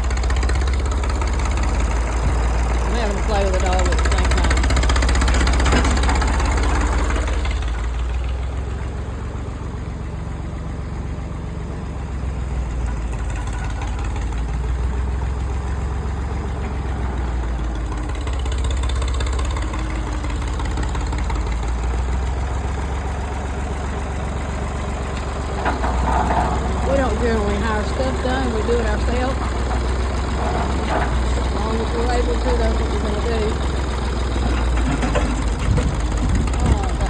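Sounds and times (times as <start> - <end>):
tractor engine under load: 0.0 - 37.0.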